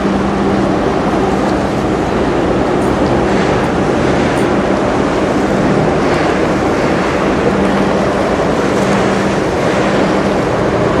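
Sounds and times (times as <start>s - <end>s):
rushing water: 0.0s - 11.0s
ship engine drone: 0.0s - 11.0s
wind: 0.0s - 11.0s.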